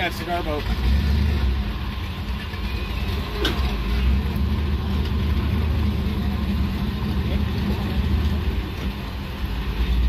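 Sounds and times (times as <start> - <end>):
low rumble of motor vehicles: 0.0 - 10.0.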